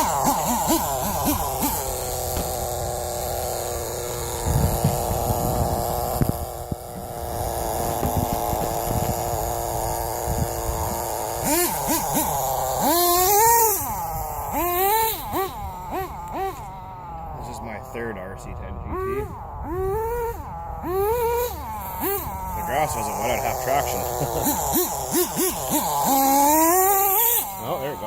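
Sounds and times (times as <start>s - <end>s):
small nitro engine revving: 0.0s - 28.0s.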